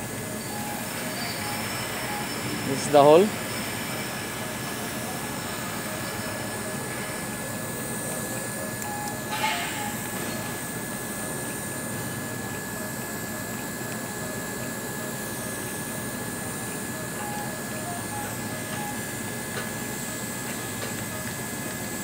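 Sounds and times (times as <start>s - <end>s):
high whine: 0.0s - 22.0s
repair shop hum: 0.0s - 22.0s.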